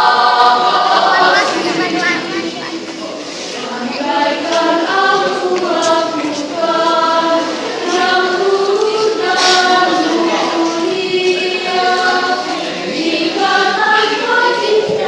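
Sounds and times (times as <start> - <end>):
choir singing in parts: 0.0 - 15.0.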